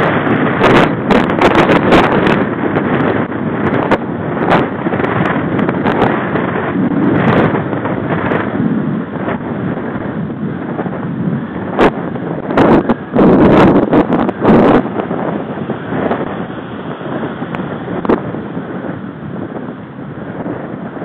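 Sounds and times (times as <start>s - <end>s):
bike and road rumble: 0.0s - 21.0s
wind buffeting microphone: 0.0s - 21.0s.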